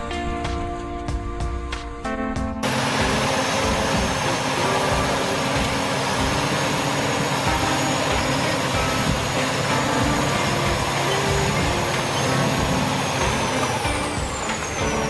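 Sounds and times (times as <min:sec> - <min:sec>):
constant rushing noise: 0:02.6 - 0:15.0
truck engine running: 0:02.6 - 0:15.0.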